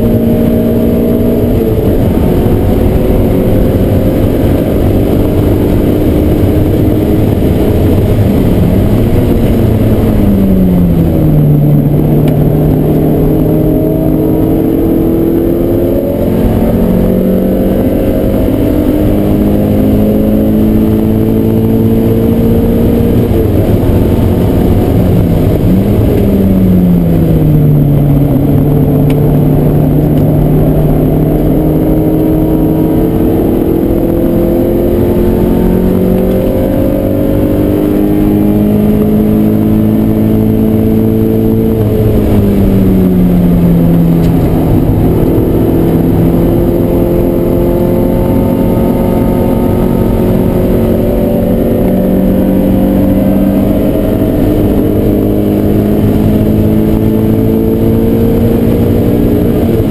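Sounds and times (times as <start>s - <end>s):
car engine from inside cabin: 0.0s - 59.9s
road and wind noise: 0.0s - 59.9s.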